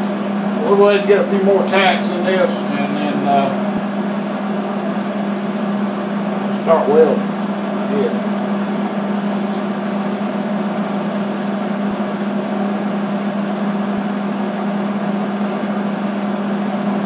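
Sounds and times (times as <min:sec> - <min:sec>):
machine hum with low drone: 0:00.0 - 0:17.0.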